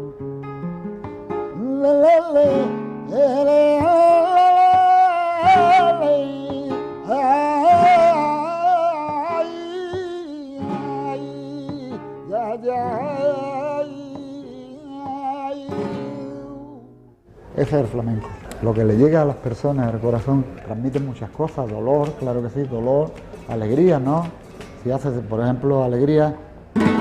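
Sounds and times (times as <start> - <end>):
flamenco singing: 0.0 - 17.1, 18.0 - 27.0
acoustic guitar: 0.0 - 27.0.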